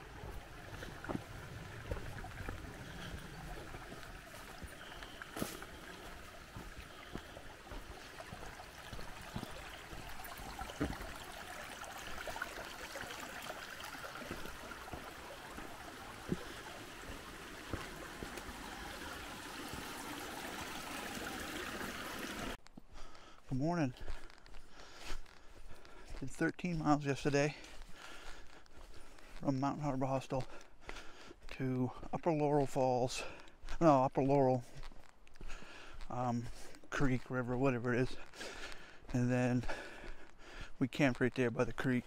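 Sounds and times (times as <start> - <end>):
creek running over rocks: 0.0 - 42.0.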